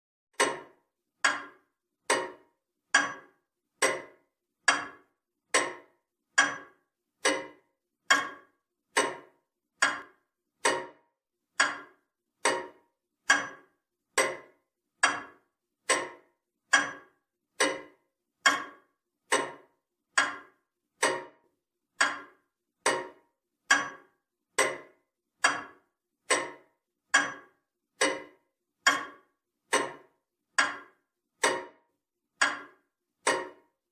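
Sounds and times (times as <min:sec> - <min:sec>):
clock ticking: 0:00.4 - 0:33.8.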